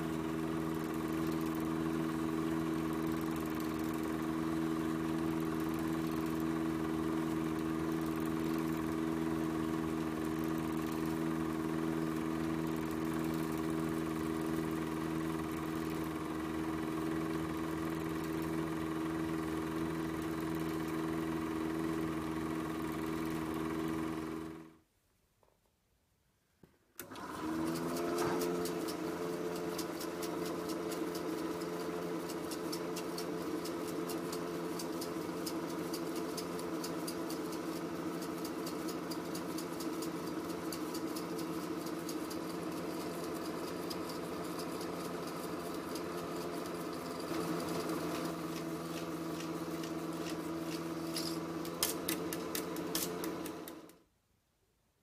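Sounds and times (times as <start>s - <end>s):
film projector motor humming: 0.0s - 24.8s, 27.0s - 54.0s.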